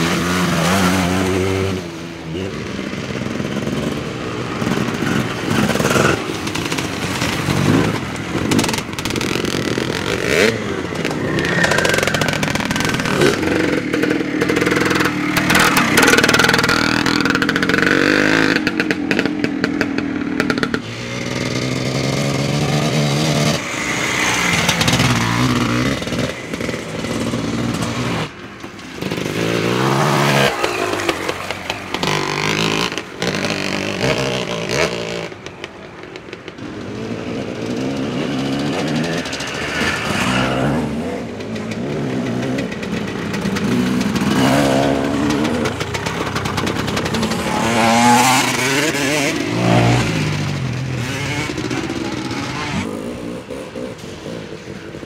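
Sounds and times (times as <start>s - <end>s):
motorcycles revving: 0.0s - 55.0s.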